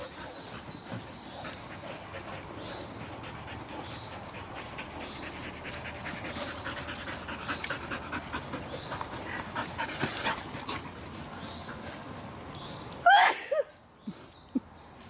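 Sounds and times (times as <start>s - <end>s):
dogs panting: 0.0s - 12.4s.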